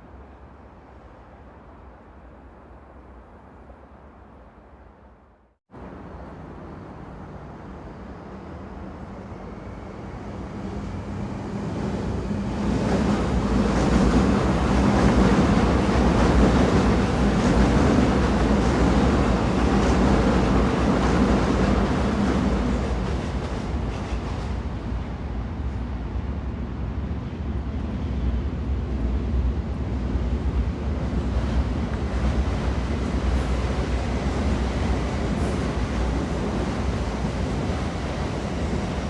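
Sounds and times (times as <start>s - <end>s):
train rumbling and rushing: 0.0s - 39.0s.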